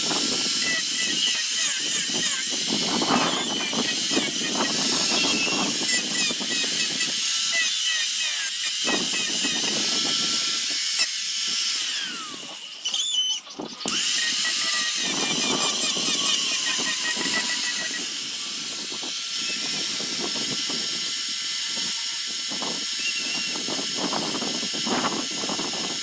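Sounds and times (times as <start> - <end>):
rotary tool grinding wood: 0.0 - 26.0.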